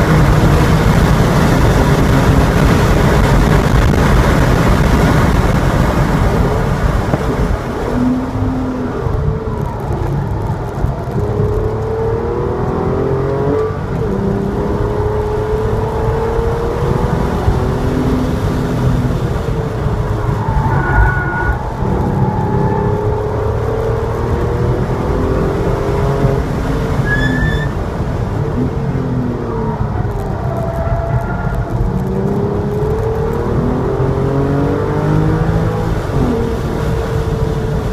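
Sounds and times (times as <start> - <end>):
car engine revving: 0.0 - 37.9
road and wind noise: 0.0 - 37.9.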